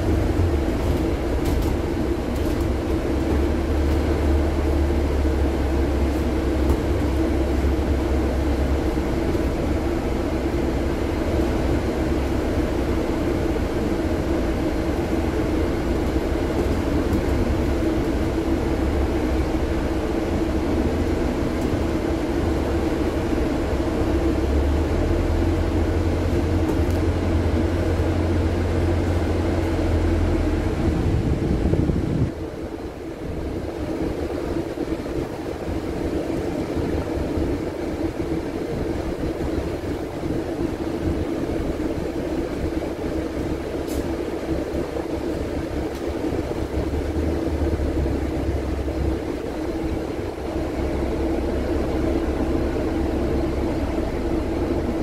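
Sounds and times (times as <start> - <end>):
bus engine rumble: 0.0 - 55.0
road noise: 0.0 - 55.0.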